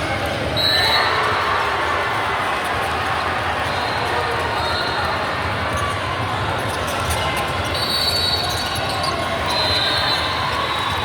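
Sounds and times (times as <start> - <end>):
echoing gym game noise: 0.0 - 11.0.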